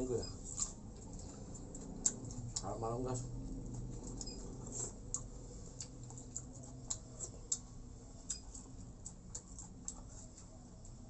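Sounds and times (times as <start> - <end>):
chewing mouth clicks and smacks: 0.4 - 2.8, 3.5 - 11.0.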